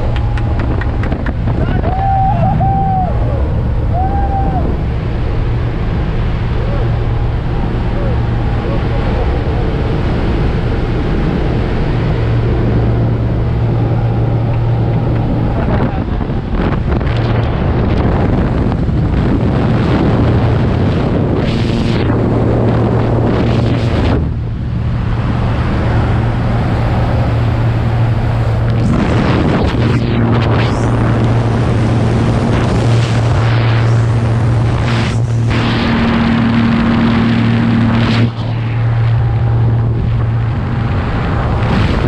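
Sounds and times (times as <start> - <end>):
plane engine and propeller droning: 0.0 - 42.0
wind rushing and buffeting microphone: 0.0 - 42.0.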